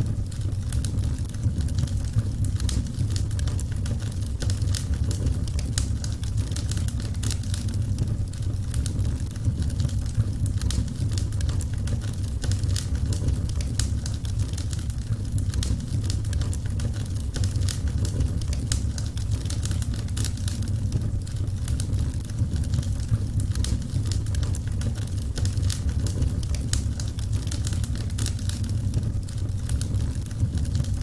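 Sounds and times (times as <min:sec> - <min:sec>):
fire popping and snapping: 0:00.0 - 0:31.0
low rumble of burning fire: 0:00.0 - 0:31.0.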